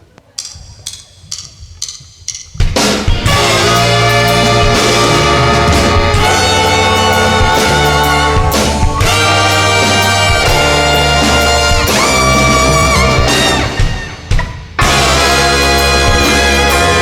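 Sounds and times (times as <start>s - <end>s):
drums: 0.0s - 17.0s
bass notes: 0.3s - 14.0s, 14.8s - 17.0s
horn section melody: 3.0s - 17.0s.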